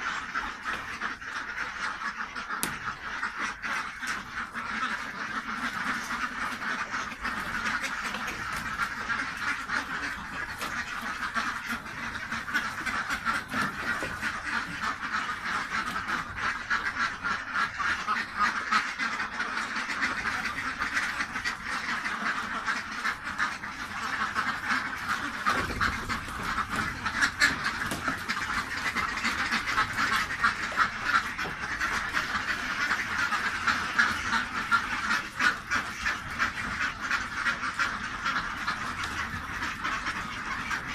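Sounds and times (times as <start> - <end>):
ducks quacking: 0.0 - 40.9.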